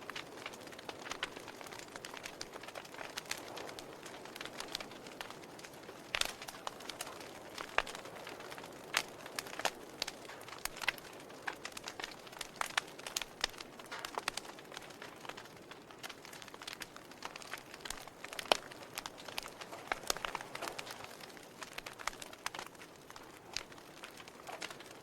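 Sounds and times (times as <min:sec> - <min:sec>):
fire crackling with pops: 0:00.0 - 0:25.0
soft steady hiss: 0:00.0 - 0:25.0.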